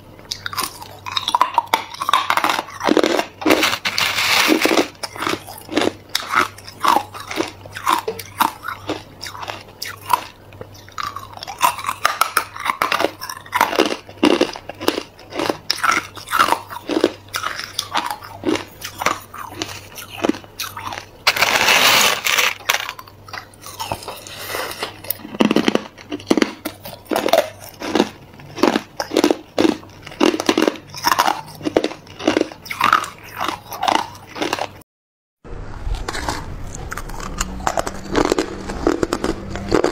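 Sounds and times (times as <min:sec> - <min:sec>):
chewing crushed ice: 0:00.3 - 0:34.8, 0:35.9 - 0:39.9.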